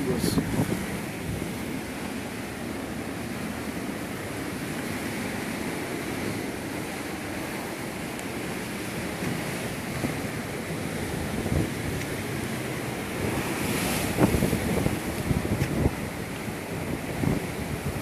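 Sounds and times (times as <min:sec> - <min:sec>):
sea surf breaking on rocks: 0:00.0 - 0:18.0.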